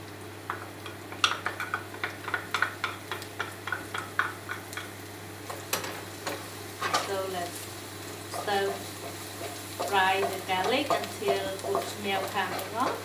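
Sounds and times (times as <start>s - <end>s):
garlic frying in hot oil: 0.0s - 13.0s.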